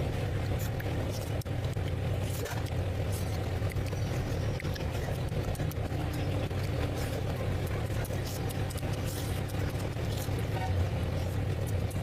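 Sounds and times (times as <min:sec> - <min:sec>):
steady low rumble: 0:00.0 - 0:12.0
wet chewing and mouth clicks: 0:00.0 - 0:12.0.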